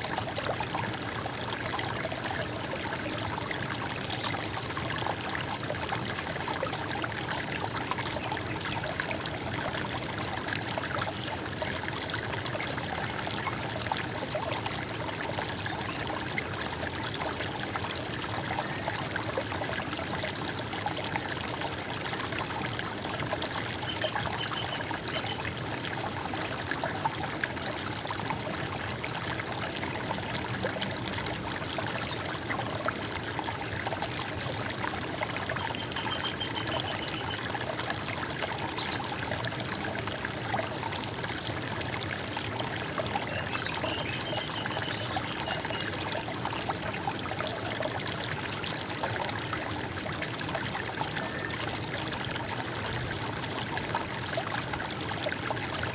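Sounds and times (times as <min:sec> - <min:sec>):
running water babbling: 0:00.0 - 0:55.9.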